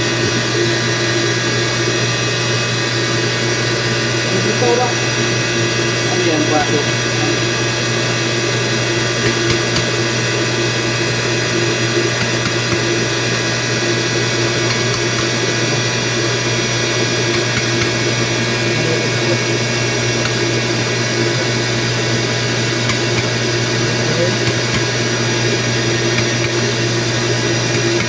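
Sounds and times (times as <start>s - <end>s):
machinery drone: 0.0s - 28.0s.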